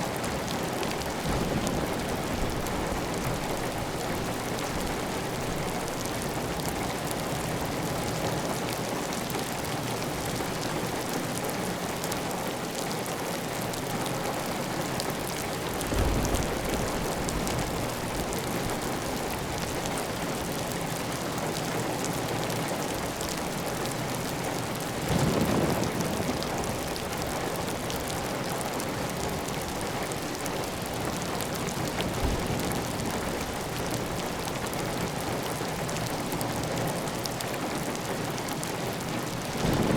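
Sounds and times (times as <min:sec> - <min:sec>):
heavy rain on a tiled roof: 0:00.0 - 0:39.9.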